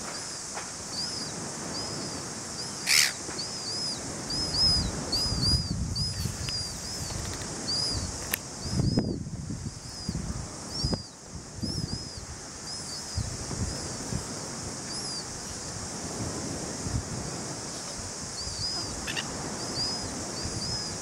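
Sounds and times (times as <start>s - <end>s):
steady high hiss: 0.0s - 21.0s
wind rumble on microphone: 0.0s - 21.0s
small birds chirping: 0.2s - 14.0s, 14.9s - 15.8s, 17.7s - 21.0s.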